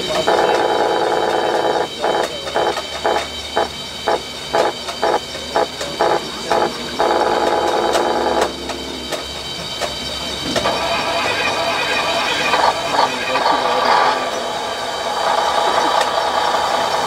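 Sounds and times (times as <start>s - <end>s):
pulsing electronic sound: 0.0s - 17.0s.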